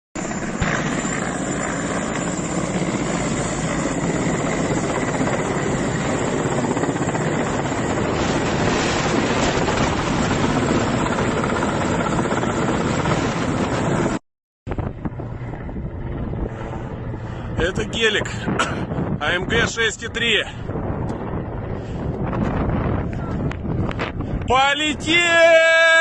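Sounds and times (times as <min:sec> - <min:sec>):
wind noise: 0:00.4 - 0:26.0.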